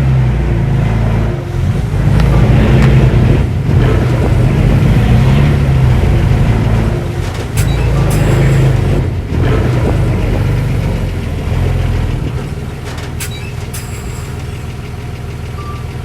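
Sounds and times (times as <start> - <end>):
diesel engine working under load: 0.0 - 16.0
sharp metallic clanks: 1.4 - 14.9.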